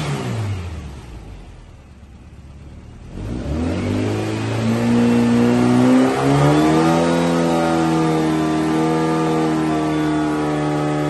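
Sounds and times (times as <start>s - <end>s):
engine revving: 0.0s - 1.6s, 2.8s - 11.0s.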